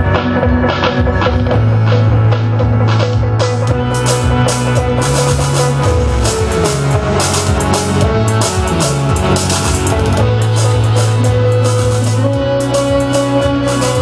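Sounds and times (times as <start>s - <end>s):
bass guitar: 0.0s - 14.0s
drum kit with cymbals: 0.0s - 14.0s
electric guitar: 0.0s - 14.0s.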